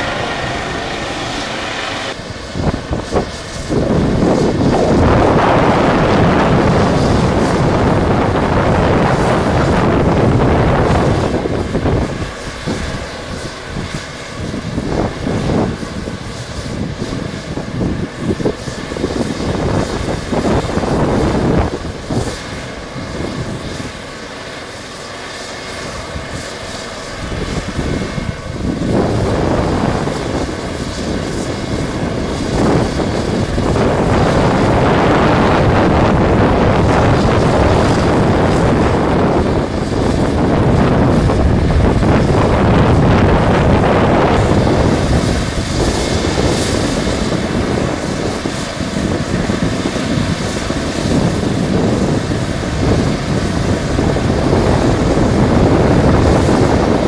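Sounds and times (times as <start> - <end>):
wind buffeting microphone: 0.0 - 24.6, 25.6 - 57.0
helicopter turbine whine and rotor: 0.0 - 57.0.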